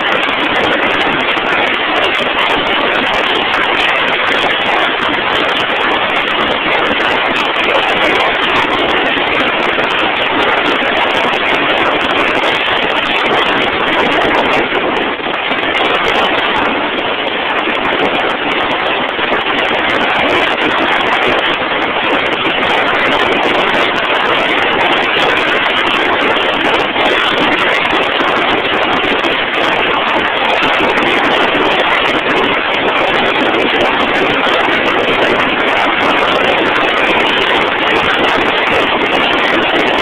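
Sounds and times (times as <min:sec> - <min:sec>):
loud machinery noise: 0:00.0 - 0:40.0.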